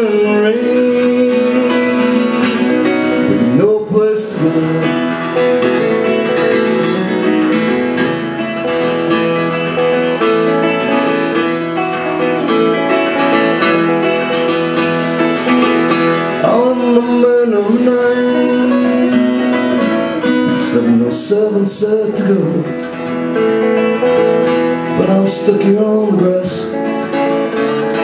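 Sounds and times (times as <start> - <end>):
acoustic guitars strumming and picking: 0.0 - 28.0.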